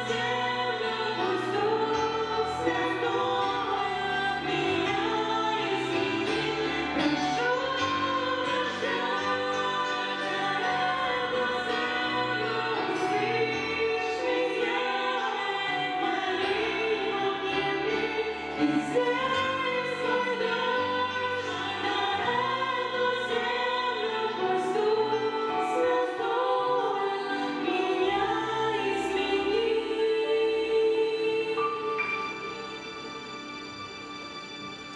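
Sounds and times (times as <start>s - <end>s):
choir singing in harmony: 0.0s - 34.9s
musical accompaniment: 0.0s - 34.9s.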